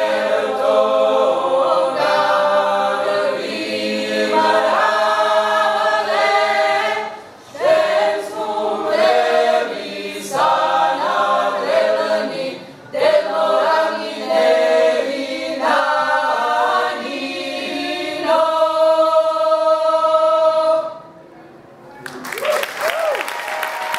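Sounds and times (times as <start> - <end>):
mixed choir singing a cappella: 0.0 - 21.2.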